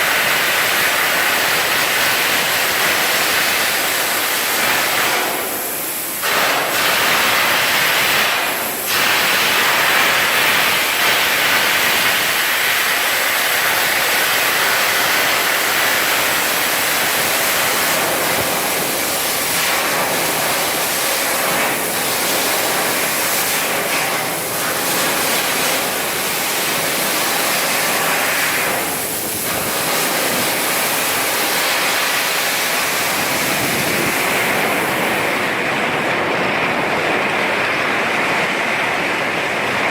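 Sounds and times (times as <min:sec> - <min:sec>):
welding arc hissing and crackling: 0:00.0 - 0:35.6.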